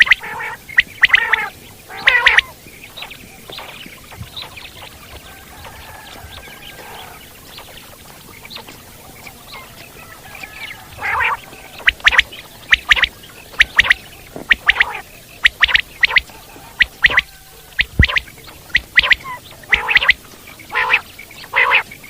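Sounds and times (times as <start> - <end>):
faint chirps: 0.0 - 22.0
quail calling: 0.0 - 22.0.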